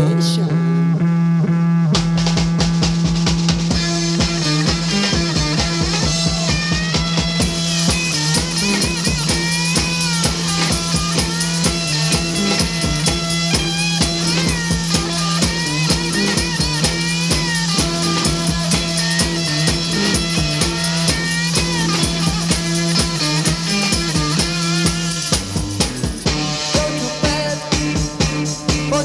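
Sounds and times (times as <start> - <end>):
bass guitar: 0.0 - 29.0
electric guitar: 0.0 - 29.0
drum kit beat: 1.9 - 29.0.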